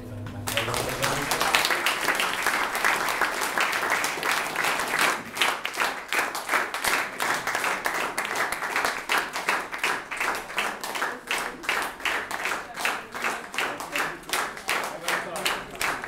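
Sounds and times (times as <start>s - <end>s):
audience applauding: 0.3s - 16.0s.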